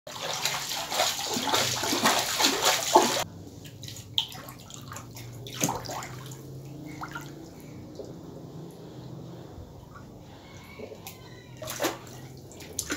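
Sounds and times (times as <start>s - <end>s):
water splashing and sloshing: 0.1s - 12.9s.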